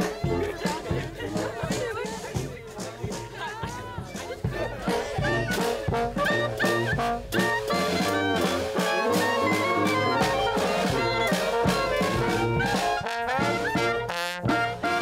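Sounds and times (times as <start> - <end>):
bass drum: 0.0 - 15.0
marching brass band playing: 0.0 - 15.0.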